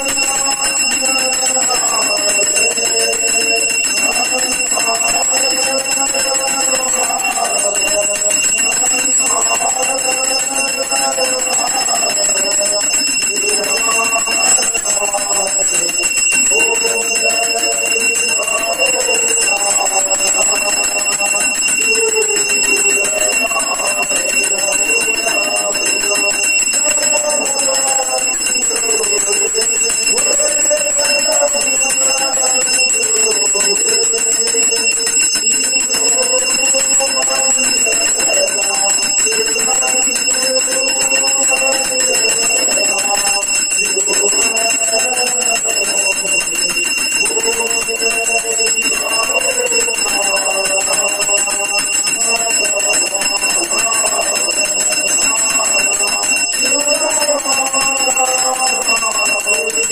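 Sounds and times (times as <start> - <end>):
hand bell ringing: 0.0 - 59.9
man singing through speaker: 0.0 - 59.9.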